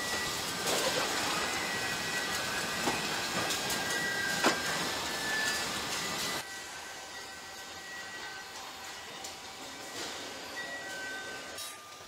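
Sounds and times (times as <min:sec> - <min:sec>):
high machine whine: 0:00.0 - 0:12.0
steady factory hum: 0:00.0 - 0:12.0.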